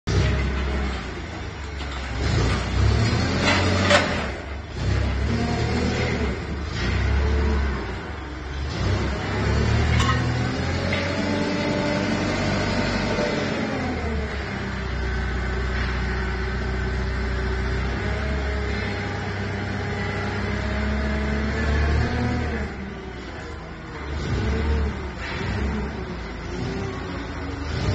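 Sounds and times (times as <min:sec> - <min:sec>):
forklift engine running: 0:00.1 - 0:27.9.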